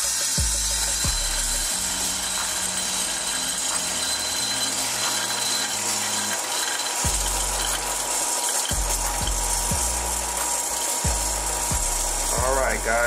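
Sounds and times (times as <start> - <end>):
coffee beans rattling in cooling tray: 0.0 - 13.0
cooling fan running: 0.0 - 13.0.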